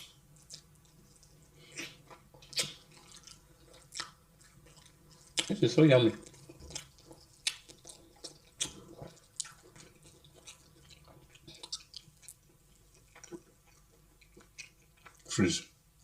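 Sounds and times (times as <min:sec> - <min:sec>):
wet chewing smacks: 0:00.0 - 0:05.6, 0:06.2 - 0:15.4.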